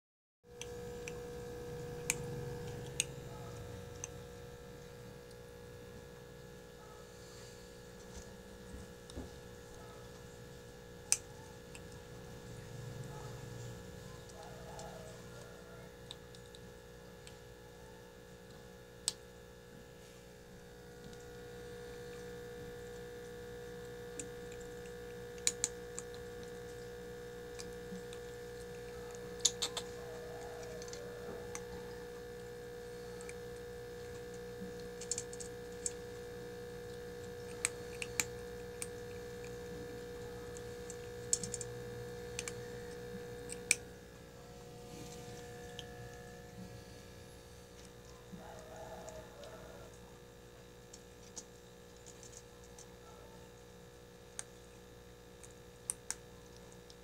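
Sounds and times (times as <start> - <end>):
background hum: 0.5 - 57.0
kitten eating from metal plate: 0.5 - 57.0.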